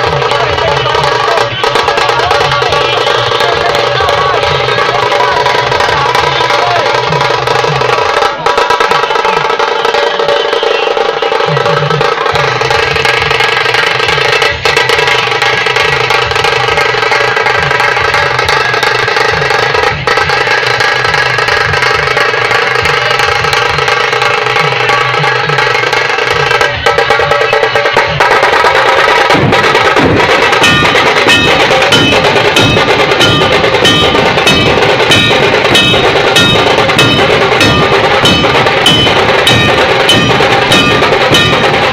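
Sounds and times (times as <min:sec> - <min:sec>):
deep drum beat: 0:00.0 - 0:41.9
snare drums rolling fast: 0:00.0 - 0:41.9.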